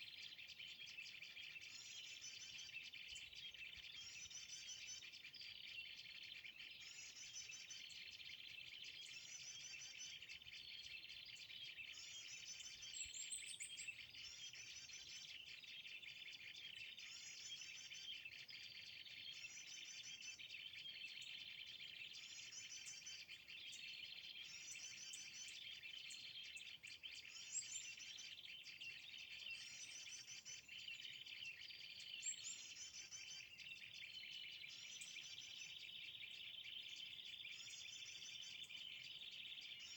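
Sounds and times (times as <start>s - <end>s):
small bird call: 0.0s - 39.9s.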